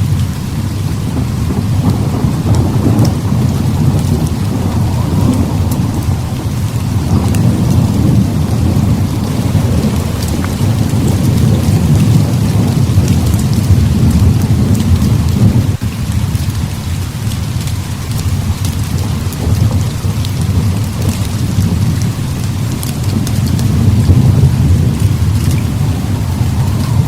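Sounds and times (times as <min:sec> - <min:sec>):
deep rumble of thunder: 0:00.0 - 0:27.0
heavy rain: 0:00.0 - 0:27.0.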